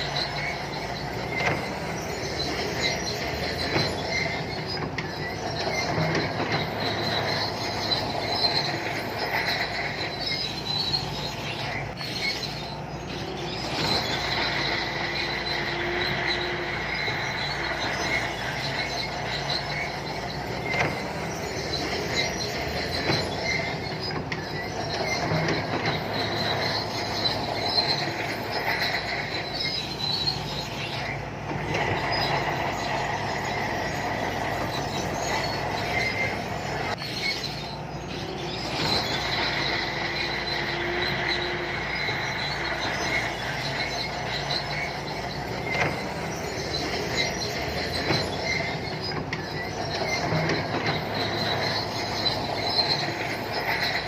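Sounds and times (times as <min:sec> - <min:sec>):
bulldozer diesel engine running: 0:00.0 - 0:54.0
steel tracks squealing and clattering: 0:00.0 - 0:54.0.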